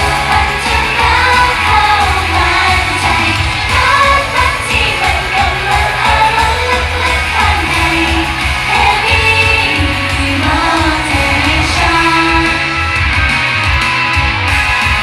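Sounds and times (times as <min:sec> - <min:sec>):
pop song through sound system: 0:00.0 - 0:15.0.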